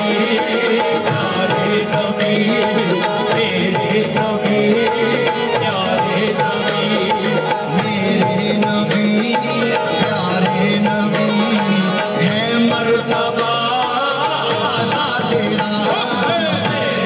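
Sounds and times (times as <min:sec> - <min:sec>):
harmonium melody: 0:00.0 - 0:17.0
tabla beats: 0:00.0 - 0:17.0.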